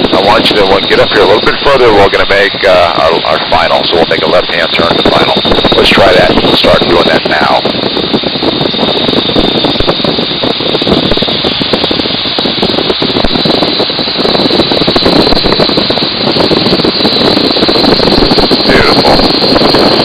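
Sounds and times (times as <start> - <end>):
radial engine at reduced power: 0.0 - 20.0
wind rushing over airframe: 0.0 - 20.0.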